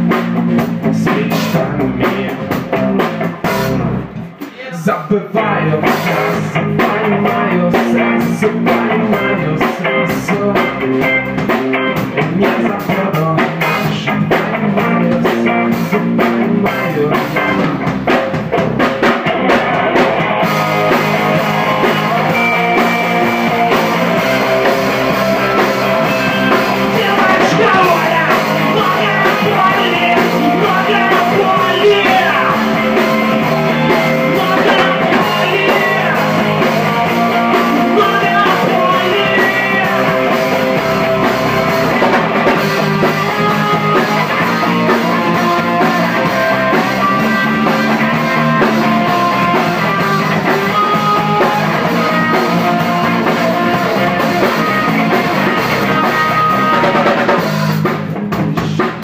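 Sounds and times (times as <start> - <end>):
drum kit: 0.0 - 59.0
electric guitar: 0.0 - 59.0.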